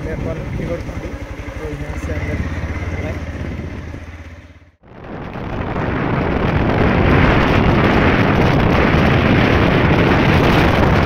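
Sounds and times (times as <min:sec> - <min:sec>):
motorcycle running: 0:00.0 - 0:11.0
wind rushing over microphone: 0:02.0 - 0:11.0.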